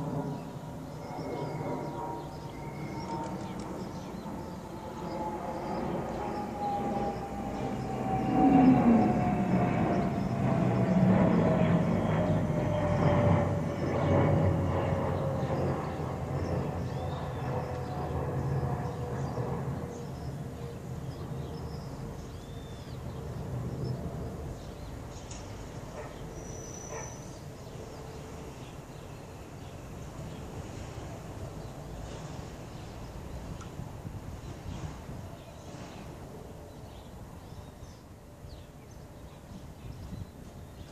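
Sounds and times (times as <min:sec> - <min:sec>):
airplane passing overhead: 0:00.0 - 0:40.9.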